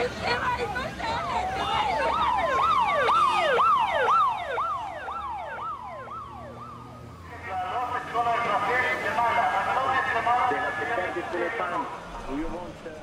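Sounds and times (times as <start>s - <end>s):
siren rising wail: 1.3s - 12.4s.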